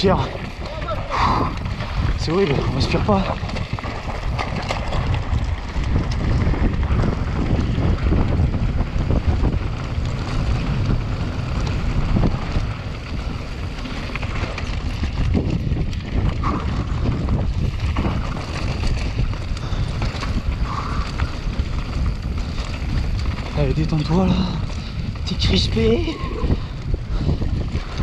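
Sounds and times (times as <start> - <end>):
bike knocking and rattling: 0.0 - 28.0
tyres rumbling on gravel: 0.0 - 28.0
wind buffeting microphone: 0.0 - 28.0.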